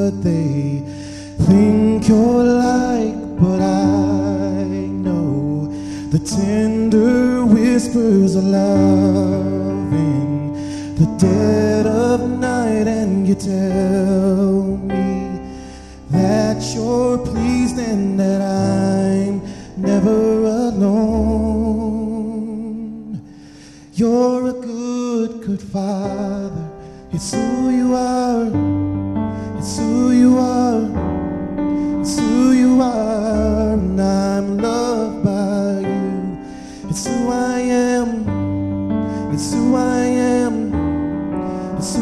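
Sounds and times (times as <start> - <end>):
held keyboard chords: 0.0 - 42.0
person singing with vibrato: 0.0 - 42.0.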